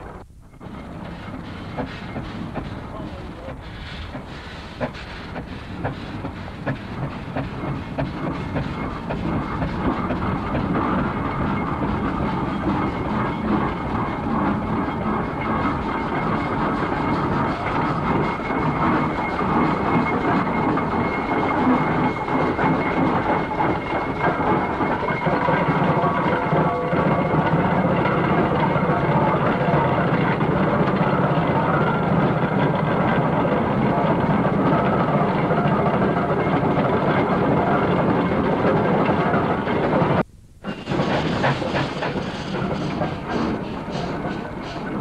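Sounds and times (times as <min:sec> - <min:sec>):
steam engine exhaust chuffing: 0:00.0 - 0:45.0.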